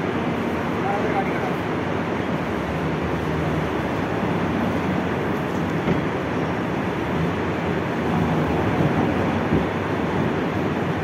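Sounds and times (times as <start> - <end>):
truck diesel engine under load: 0.0 - 11.0.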